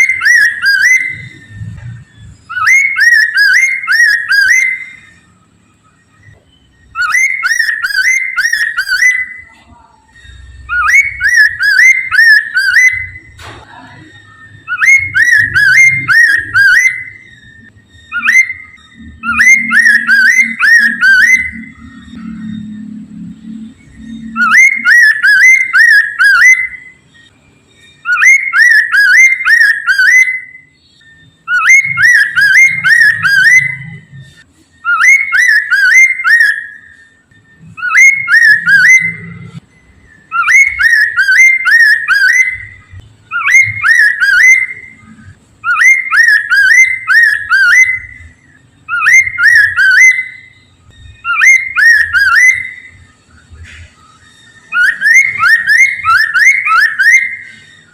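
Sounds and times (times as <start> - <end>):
bird whistling phrase: 2.5 - 5.2, 6.2 - 23.0, 23.9 - 27.0, 27.9 - 39.6, 40.2 - 57.9.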